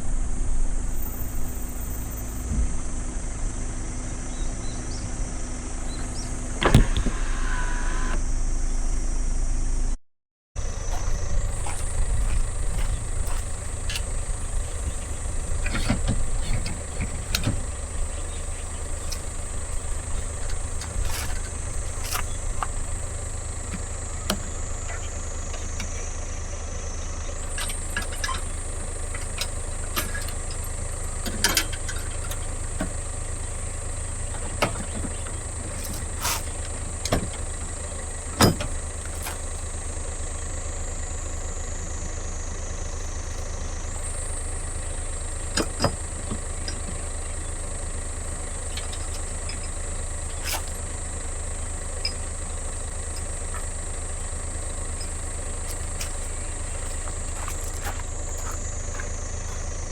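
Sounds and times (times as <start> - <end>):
road and wind noise: 0.0 - 10.0, 10.6 - 59.9
vehicle engine running: 0.0 - 10.0, 10.6 - 59.9.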